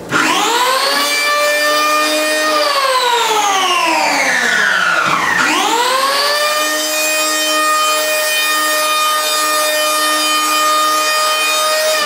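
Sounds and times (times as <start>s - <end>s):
power planer whining: 0.0s - 12.0s.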